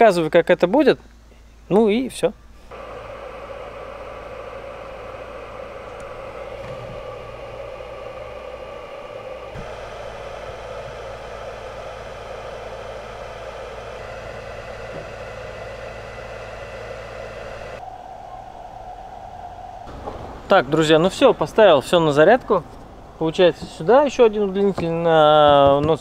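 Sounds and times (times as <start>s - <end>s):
steady whirring hum: 0.0s - 26.0s.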